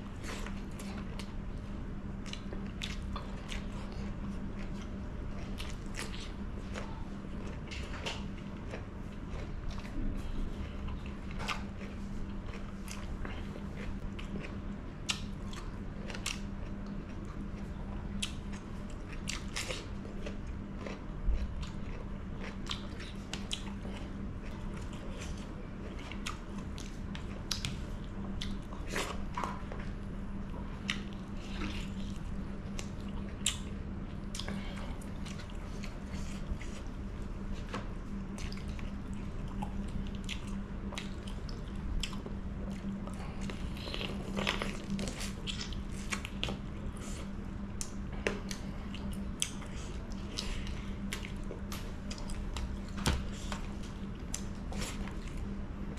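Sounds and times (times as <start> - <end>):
faint steady hum: 0.0 - 55.9
chewing and mouth smacks: 2.2 - 55.9.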